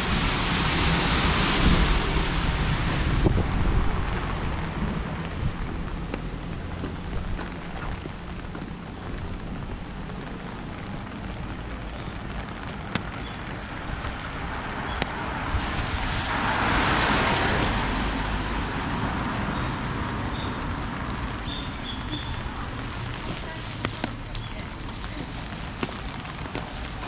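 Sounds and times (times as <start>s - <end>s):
rain hissing: 0.0s - 27.0s
traffic rumble: 0.0s - 27.0s
tyres hissing on wet road: 0.0s - 27.0s.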